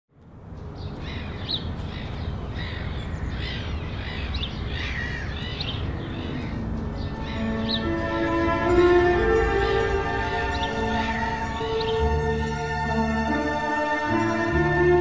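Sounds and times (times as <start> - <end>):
birds chirping: 0.2 - 15.0
low outdoor rumble: 0.2 - 15.0.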